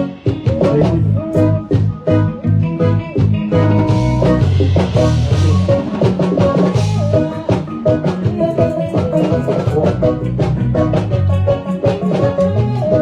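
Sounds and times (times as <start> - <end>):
drum kit beats: 0.0 - 13.0
live band playing: 0.0 - 13.0.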